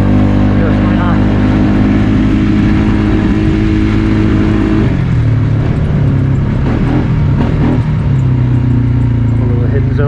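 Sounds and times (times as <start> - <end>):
quad bike engine running: 0.0 - 10.0.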